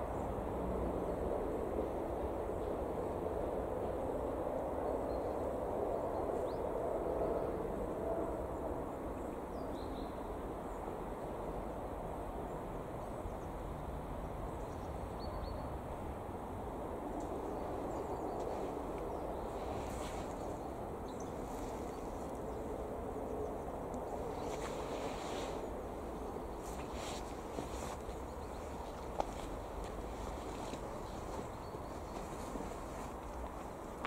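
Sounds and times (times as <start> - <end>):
low hiss of distant noise: 0.0 - 34.0.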